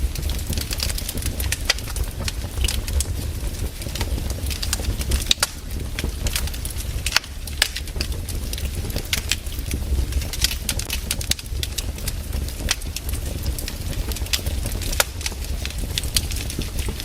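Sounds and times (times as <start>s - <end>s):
firewood crackling and popping: 0.0s - 17.0s
steady low rumble: 0.0s - 17.0s.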